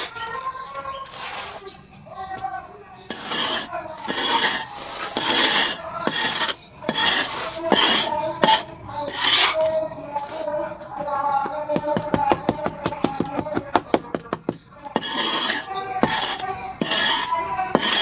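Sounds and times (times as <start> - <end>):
charcoal rasping strokes: 1.0 - 2.4, 3.0 - 18.0.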